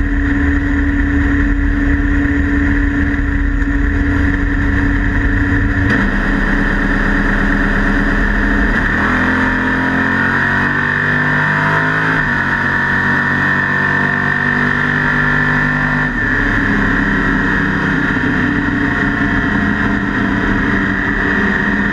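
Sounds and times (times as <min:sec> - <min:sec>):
race car engine running at low revs: 0:00.0 - 0:21.9.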